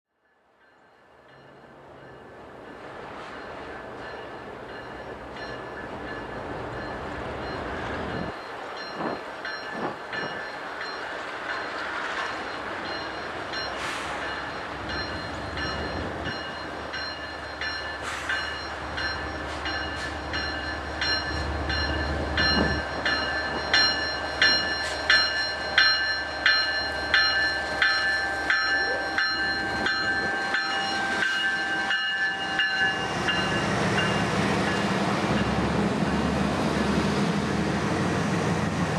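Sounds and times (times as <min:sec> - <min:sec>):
diesel freight train passing: 0:00.2 - 0:38.9.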